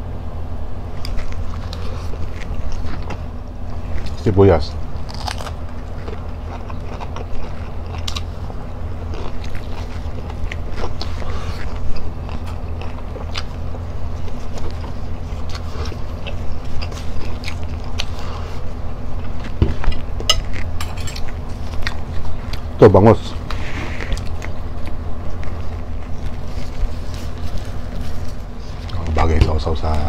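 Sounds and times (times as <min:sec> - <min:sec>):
steady low hum: 0:00.0 - 0:30.0
person chewing food: 0:00.9 - 0:04.3, 0:04.9 - 0:22.8, 0:23.4 - 0:29.0.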